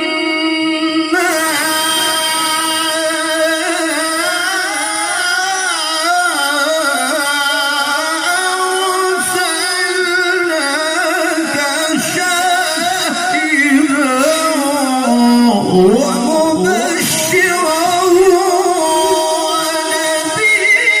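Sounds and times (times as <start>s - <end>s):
man reciting melodically: 0.0s - 21.0s.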